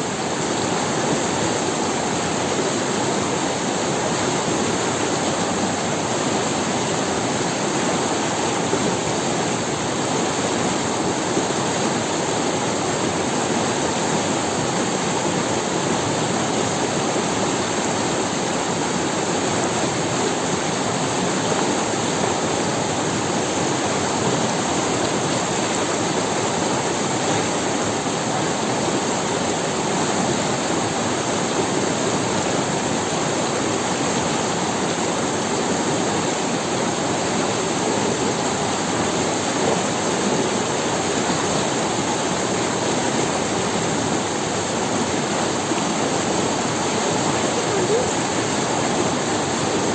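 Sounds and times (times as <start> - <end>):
river water rushing over stones: 0.0 - 49.9.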